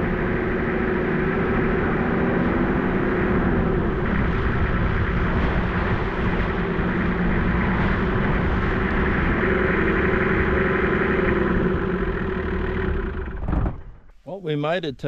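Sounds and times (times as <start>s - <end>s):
vehicle engine droning: 0.0s - 14.2s
road noise: 0.0s - 15.0s.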